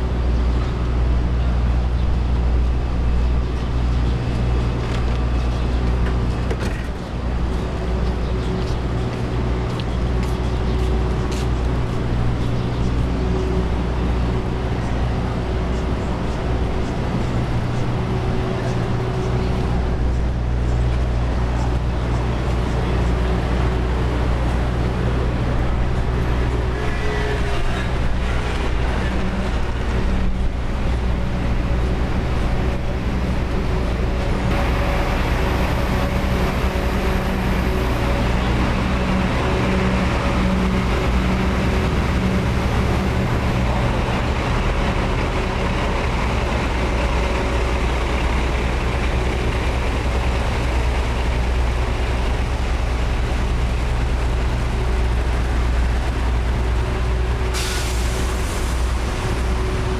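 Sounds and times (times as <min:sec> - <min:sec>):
large engine running: 0:00.0 - 0:59.9
passing vehicles: 0:00.0 - 0:59.9.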